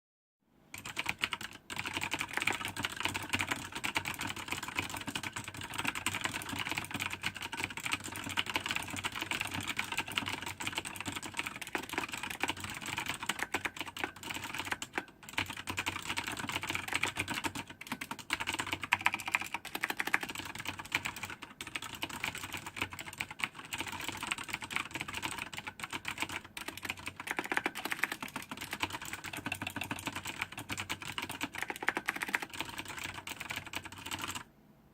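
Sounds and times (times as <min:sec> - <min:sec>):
fast typing on mechanical keyboard: 0:00.7 - 0:34.5.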